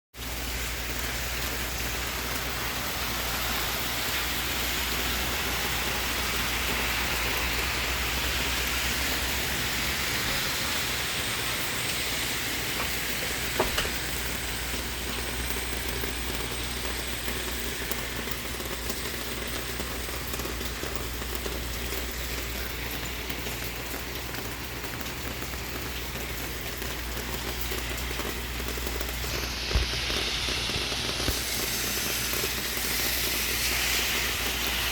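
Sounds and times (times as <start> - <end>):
rain falling: 0.2 - 34.9.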